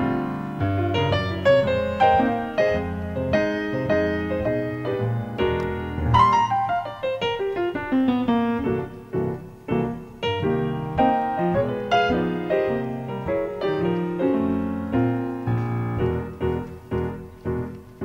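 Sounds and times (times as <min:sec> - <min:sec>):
piano playing instrumental: 0:00.0 - 0:18.0.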